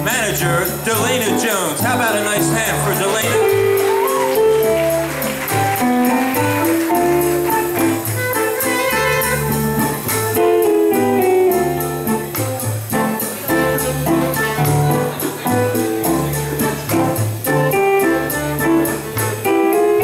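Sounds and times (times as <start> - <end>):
drum kit cymbals: 0.0 - 20.0
plucked upright bass: 0.0 - 20.0
electric guitar: 2.0 - 20.0.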